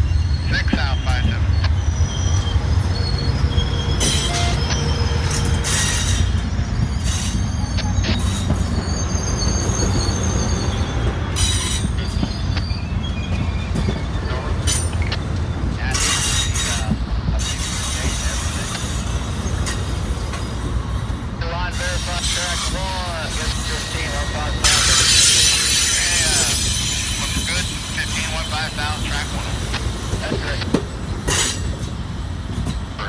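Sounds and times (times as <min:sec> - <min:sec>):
wheel squeals: 0:00.0 - 0:20.7, 0:22.5 - 0:32.9
train wheels rumbling on rails: 0:00.0 - 0:33.0.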